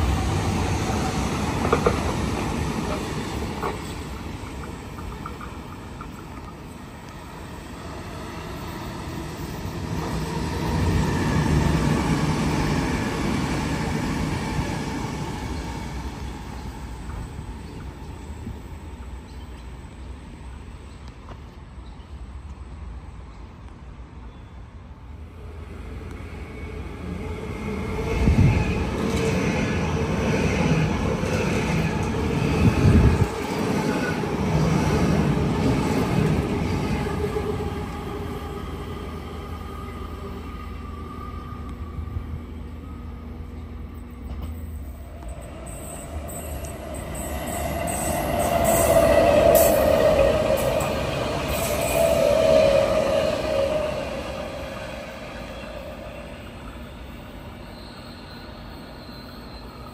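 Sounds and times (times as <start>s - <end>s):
electric train passing: 0.0s - 20.9s, 21.6s - 59.9s
train arriving: 0.0s - 59.9s.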